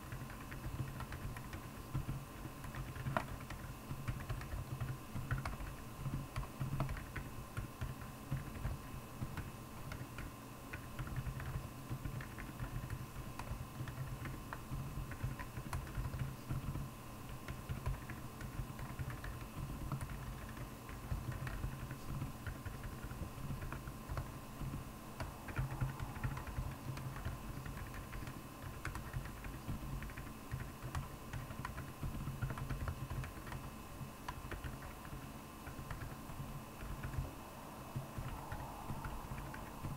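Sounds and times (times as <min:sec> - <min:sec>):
mechanical keyboard typing: 0:00.0 - 0:16.8, 0:17.5 - 0:37.3
steady hum: 0:00.0 - 0:39.9.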